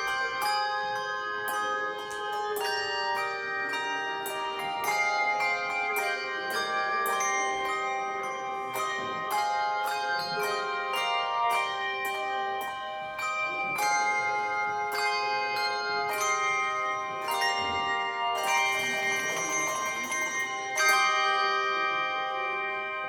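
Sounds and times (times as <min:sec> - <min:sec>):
handbell chords ringing: 0:00.0 - 0:23.0.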